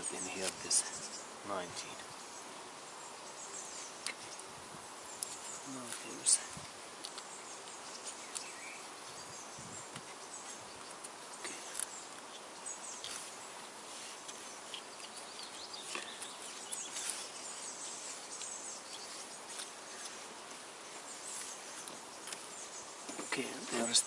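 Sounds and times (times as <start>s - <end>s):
birds chirping: 0.0s - 24.0s
outdoor background hiss: 0.0s - 24.0s.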